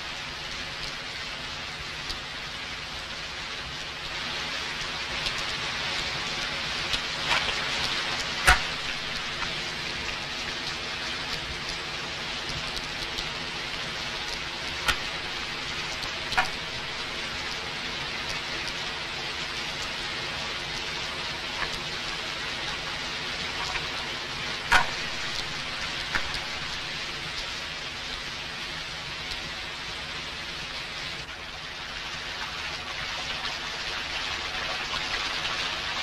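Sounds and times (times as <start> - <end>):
rain hissing: 0.0 - 36.0.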